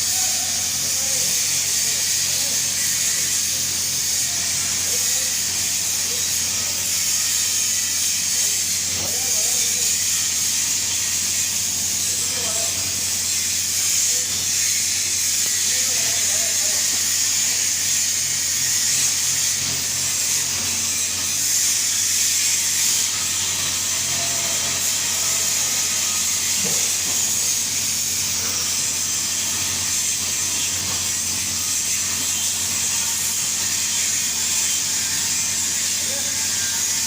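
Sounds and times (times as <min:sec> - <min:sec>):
welding arc hissing: 0:00.0 - 0:37.0.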